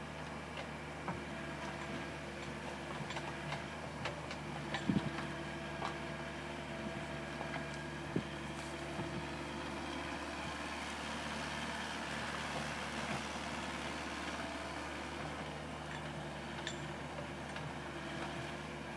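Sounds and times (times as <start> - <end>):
excavator engine running: 0.0 - 18.9.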